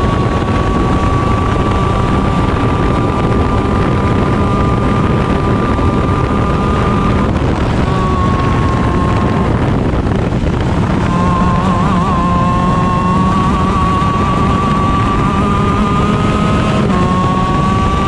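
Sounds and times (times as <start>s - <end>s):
kart engine running hard: 0.0s - 18.0s
wind noise on microphone: 0.0s - 18.0s.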